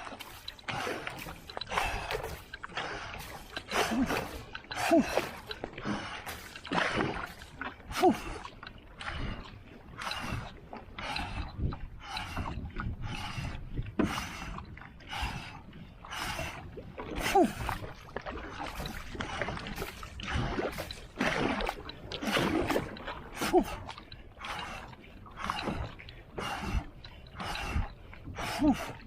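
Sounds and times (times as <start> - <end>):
paddle strokes splashing water: 0.0 - 29.0.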